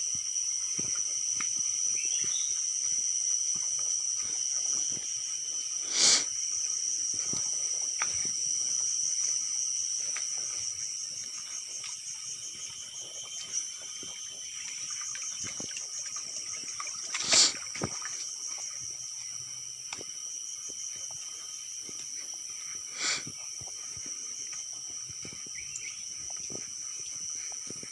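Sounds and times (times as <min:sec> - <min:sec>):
insects shrilling: 0:00.0 - 0:27.9
footstep scuffs: 0:00.3 - 0:15.8, 0:17.3 - 0:27.9.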